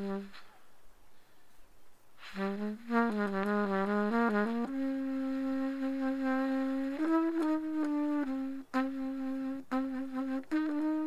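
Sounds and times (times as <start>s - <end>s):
wind instrument slow melody: 0.0s - 0.6s, 2.2s - 11.0s.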